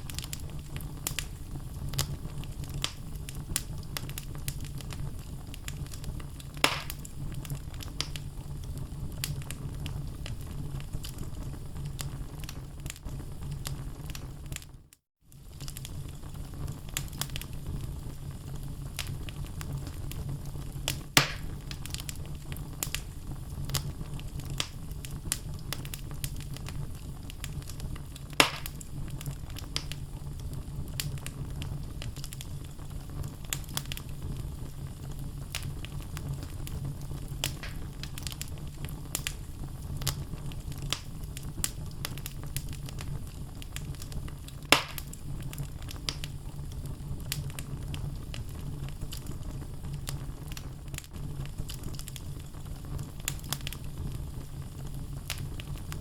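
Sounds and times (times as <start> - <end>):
loud fire pops: 0.0 - 56.0
low fire rumble: 0.0 - 56.0
wood fire crackling: 0.0 - 56.0.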